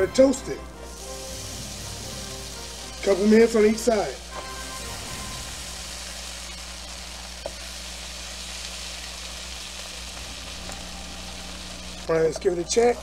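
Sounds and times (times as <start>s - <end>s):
bread sizzling in a frying pan: 0.8s - 13.0s.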